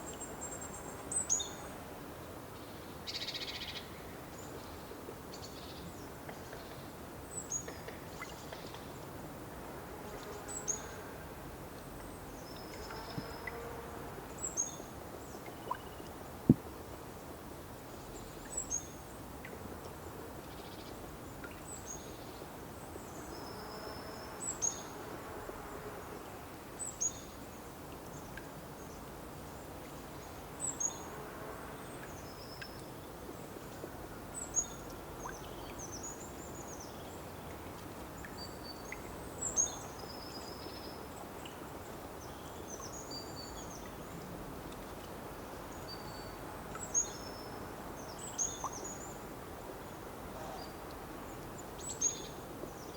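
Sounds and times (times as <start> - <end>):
steady background hiss: 0.0 - 52.9.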